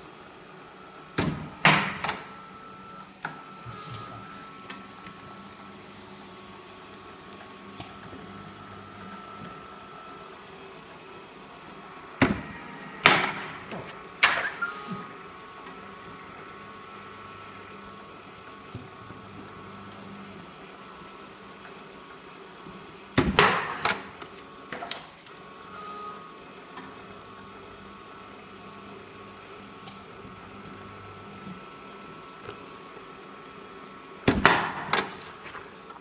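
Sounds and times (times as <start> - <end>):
laminator motor humming: 0.0 - 36.0.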